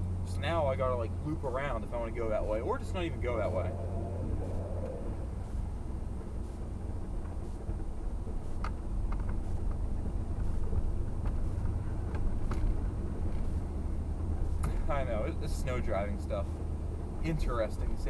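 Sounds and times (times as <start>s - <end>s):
truck engine rumble from inside cab: 0.0s - 18.0s
tyre and road noise: 0.0s - 18.0s.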